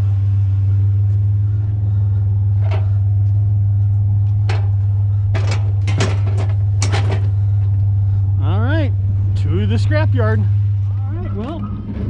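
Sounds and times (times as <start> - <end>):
truck drone from inside cab: 0.0 - 12.0.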